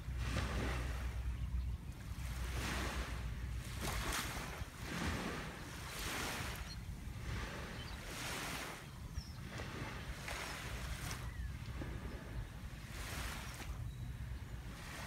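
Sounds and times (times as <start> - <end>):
small waves lapping on sand: 0.0 - 15.0
wind on microphone: 0.0 - 15.0.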